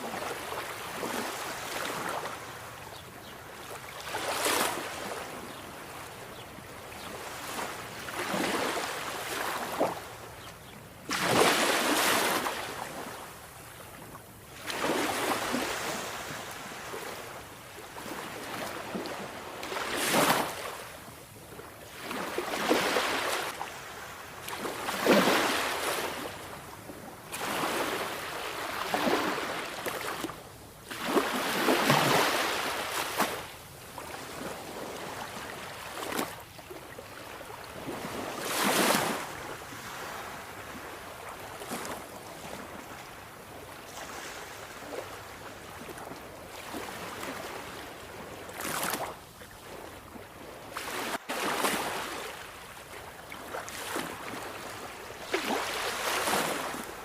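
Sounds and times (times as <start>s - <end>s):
sea waves breaking on shore: 0.0s - 2.8s, 3.5s - 6.4s, 7.0s - 10.3s, 11.0s - 13.6s, 14.5s - 57.0s.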